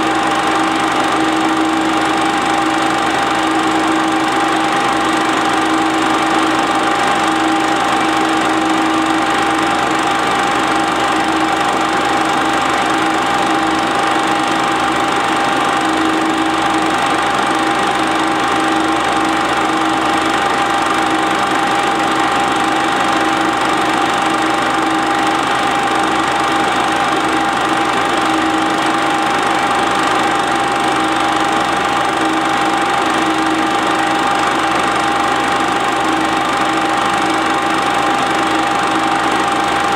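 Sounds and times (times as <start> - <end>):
film projector whirring: 0.0 - 39.9
motor hum: 0.0 - 39.9.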